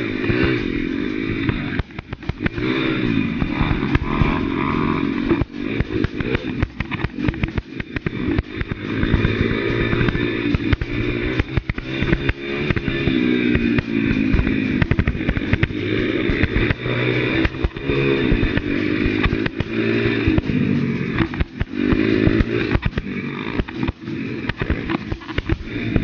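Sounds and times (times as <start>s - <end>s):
pit bike engine revving: 0.0s - 26.0s.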